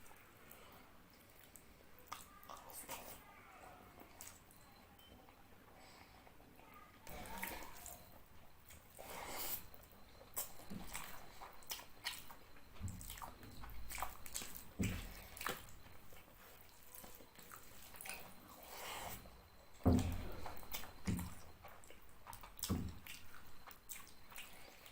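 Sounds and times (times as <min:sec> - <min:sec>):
wet chewing and smacking: 0:00.0 - 0:03.2, 0:04.0 - 0:04.8, 0:07.0 - 0:24.9.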